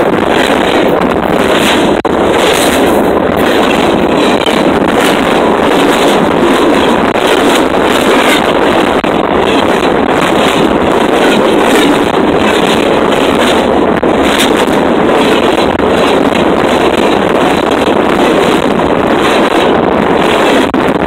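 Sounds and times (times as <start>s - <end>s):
steel wheels on rails: 0.0s - 21.0s.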